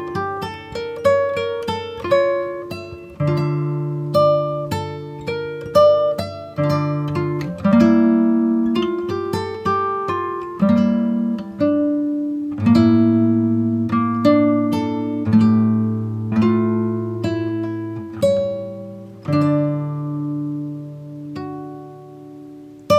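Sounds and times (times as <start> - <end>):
plucked acoustic guitar: 0.0 - 22.9.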